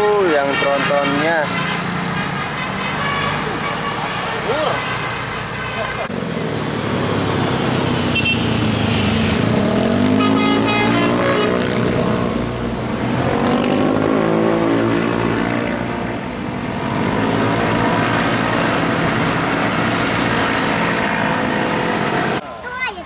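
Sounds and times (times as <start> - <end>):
diesel engine passing: 0.0 - 22.4.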